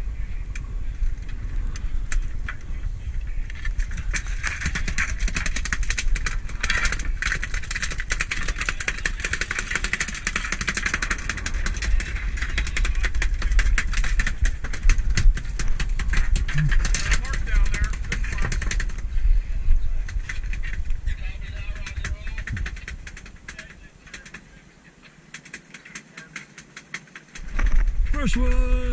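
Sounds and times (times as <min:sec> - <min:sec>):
rapid irregular clicking: 0:00.5 - 0:28.9.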